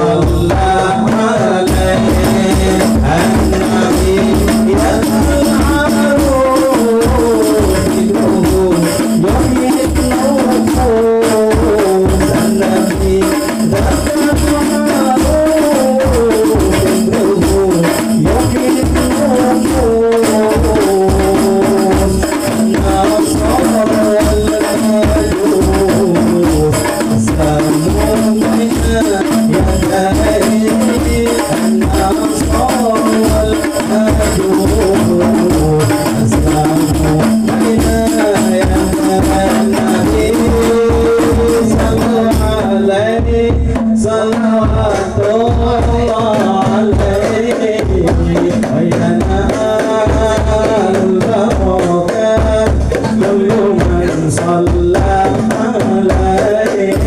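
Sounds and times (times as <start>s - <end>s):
frame drums beating: 0.0s - 57.0s
man singing into a microphone: 0.0s - 57.0s.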